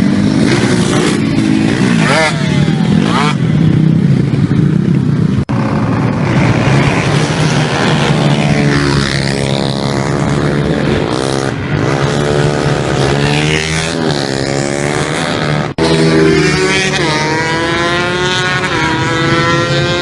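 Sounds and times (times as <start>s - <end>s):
motorbike engines revving: 0.0s - 20.0s.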